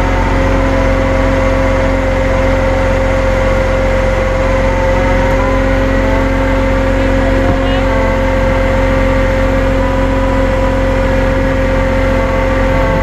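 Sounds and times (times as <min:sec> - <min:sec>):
truck engine rumbling: 0:00.0 - 0:13.0
winch whining: 0:00.0 - 0:13.0.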